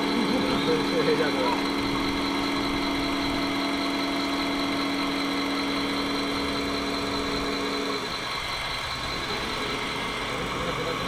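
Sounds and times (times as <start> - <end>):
model machine mechanical hum: 0.0 - 11.0
steady high whine: 0.0 - 11.0.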